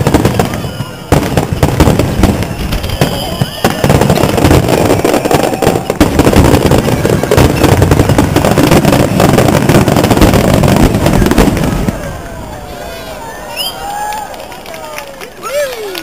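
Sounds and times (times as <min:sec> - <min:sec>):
fireworks bursting rapidly: 0:00.0 - 0:14.7.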